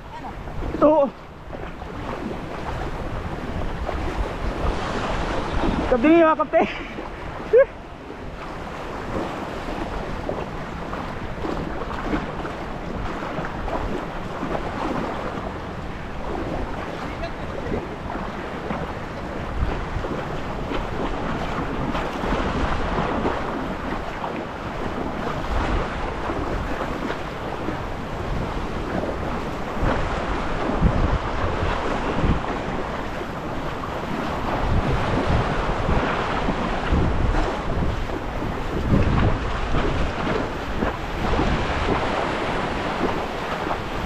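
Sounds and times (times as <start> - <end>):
surf washing and breaking: 0.0 - 44.0
wind buffeting microphone: 0.0 - 44.0.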